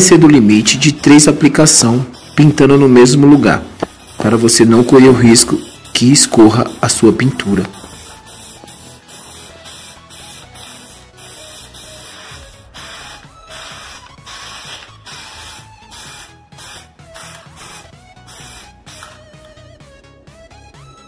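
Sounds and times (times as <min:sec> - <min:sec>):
background music: 0:00.0 - 0:21.0
spray paint can hissing: 0:00.6 - 0:19.5.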